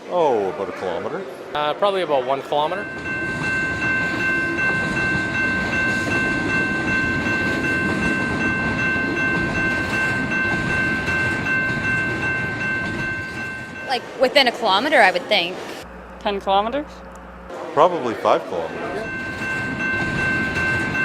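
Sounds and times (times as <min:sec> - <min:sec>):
train rumbling past: 0:02.4 - 0:21.0
high steady tones: 0:02.6 - 0:21.0.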